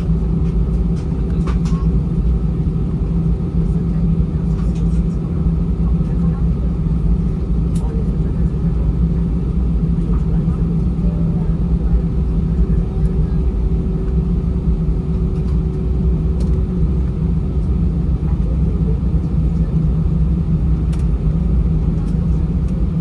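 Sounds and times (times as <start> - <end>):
aircraft engines rumbling: 0.0 - 23.0.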